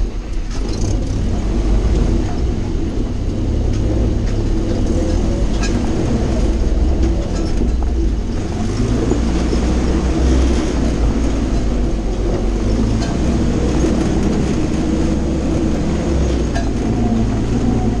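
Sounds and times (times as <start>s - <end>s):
jeep engine low rumble: 0.0s - 18.0s
body rattles and clicks: 3.6s - 18.0s.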